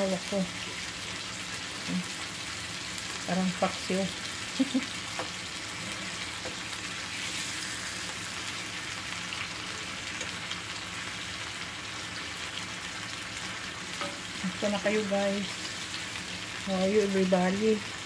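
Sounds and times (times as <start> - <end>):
chicken sizzling in frying pan: 0.0 - 18.0.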